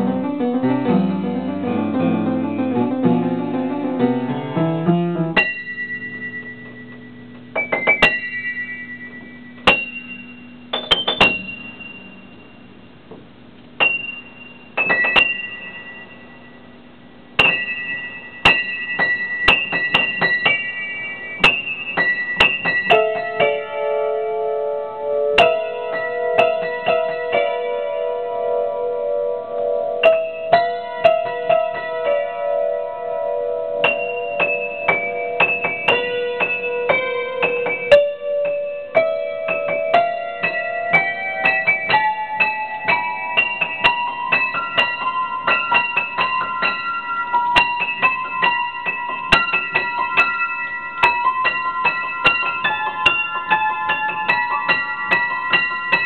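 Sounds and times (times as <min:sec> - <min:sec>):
solo piano improvisation: 0:00.0 - 0:56.0.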